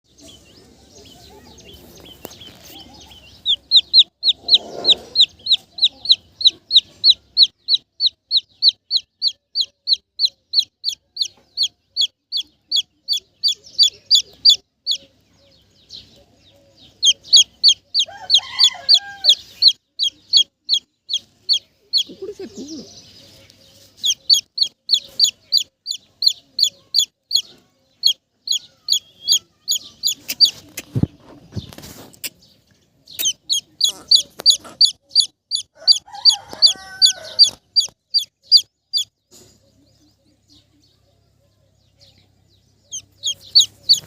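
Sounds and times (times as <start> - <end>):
chick peeping: 0.1 - 44.0.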